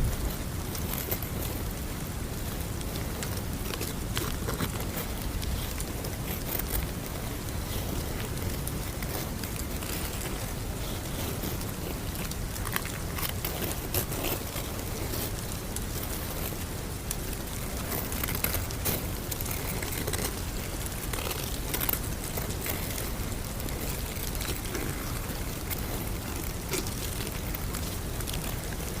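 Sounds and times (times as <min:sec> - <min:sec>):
small crackles and pops: 0:00.0 - 0:29.0
steady rushing noise: 0:00.0 - 0:29.0.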